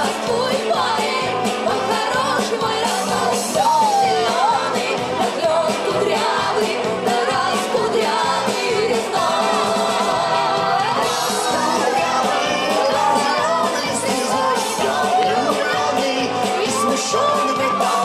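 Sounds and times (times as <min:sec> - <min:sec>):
singing over a dance beat: 0:00.0 - 0:18.0.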